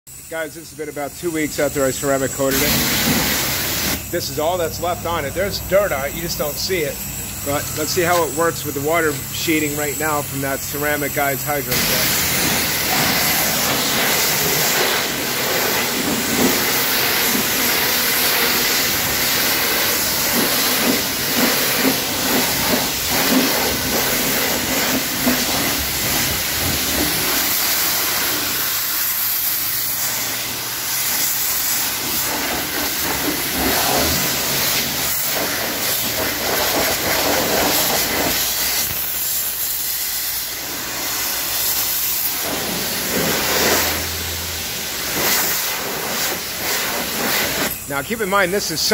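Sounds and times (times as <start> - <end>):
water spraying from a hose: 0.1 - 48.9.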